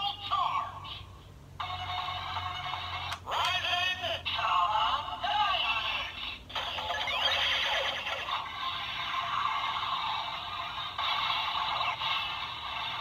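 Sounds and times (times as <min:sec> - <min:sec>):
toy electronic music loop: 0:01.6 - 0:13.0.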